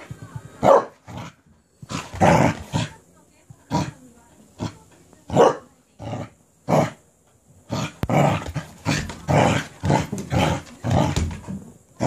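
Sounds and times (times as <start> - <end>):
dog growling: 0.6 - 3.0, 3.7 - 7.0, 7.6 - 11.6.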